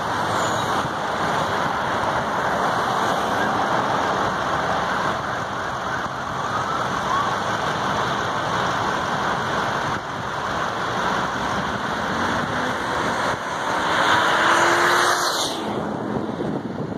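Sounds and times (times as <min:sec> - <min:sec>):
road traffic passing: 0:00.0 - 0:16.9.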